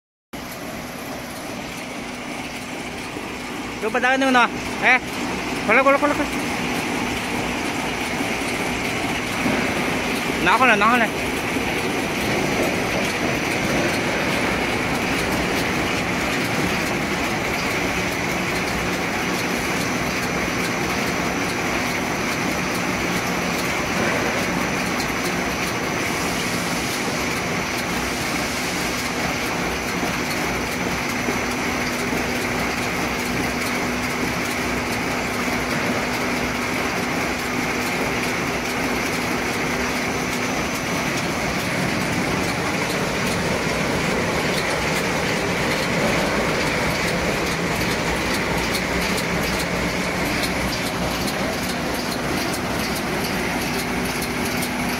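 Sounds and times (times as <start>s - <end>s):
grading machine rollers running: 0.4s - 54.9s.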